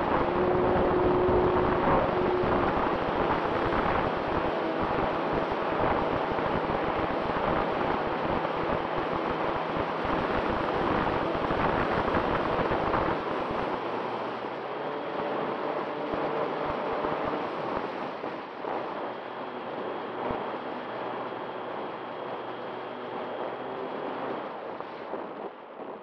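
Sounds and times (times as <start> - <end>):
electric motors and propellers humming: 0.0 - 26.0
wind rushing over microphone: 0.0 - 26.0.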